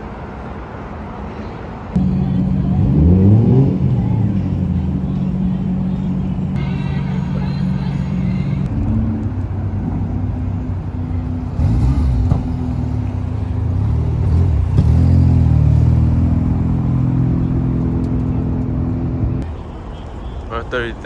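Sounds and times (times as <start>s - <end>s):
car engines running at low revs: 2.0s - 19.5s.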